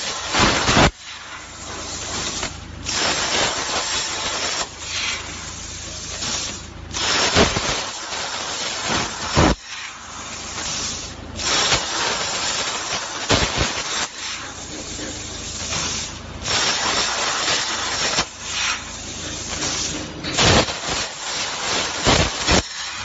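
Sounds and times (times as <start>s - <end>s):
cutting head hissing through steel: 0.0s - 23.0s.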